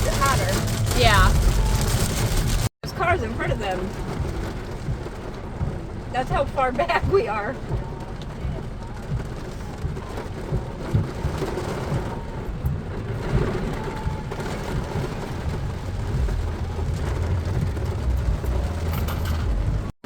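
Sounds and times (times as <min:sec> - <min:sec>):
low rumble: 0:00.0 - 0:19.9
heavy rain on a car: 0:00.0 - 0:20.0.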